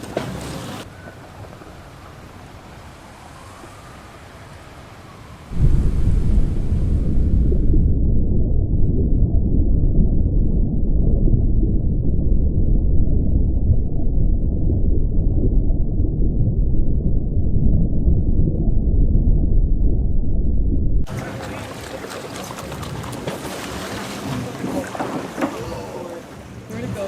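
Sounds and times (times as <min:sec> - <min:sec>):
muffled underwater rumble of water: 0:00.9 - 0:27.0.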